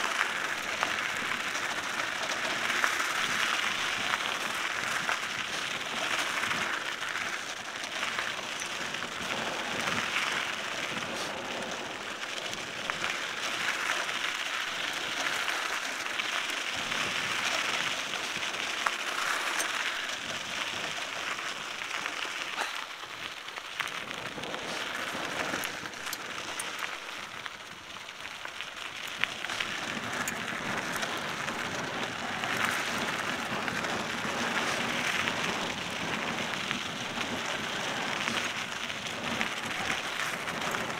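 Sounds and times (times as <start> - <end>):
bike tyres on dirt and gravel: 0.0 - 40.9.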